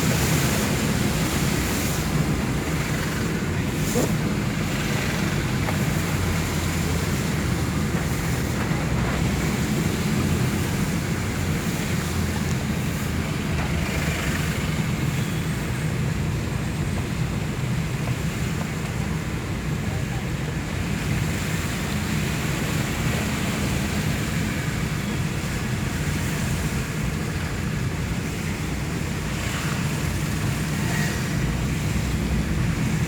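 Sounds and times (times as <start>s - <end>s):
heavy rain and rushing water: 0.0s - 33.0s
traffic rumble: 0.0s - 33.0s.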